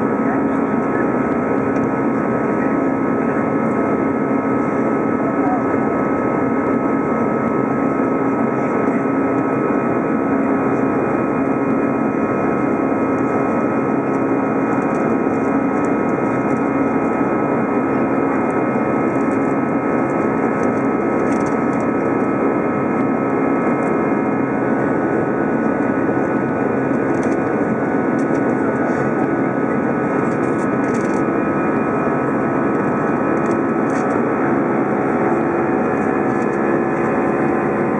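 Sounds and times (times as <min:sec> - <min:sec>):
aircraft engine and airflow drone: 0:00.0 - 0:37.9
humming and whining tones: 0:00.0 - 0:37.9.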